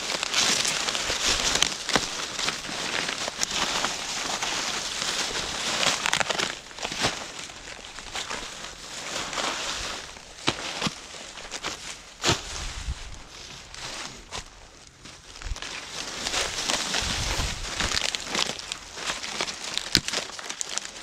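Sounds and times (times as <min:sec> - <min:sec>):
footsteps crunching dry leaves: 0:00.0 - 0:21.0.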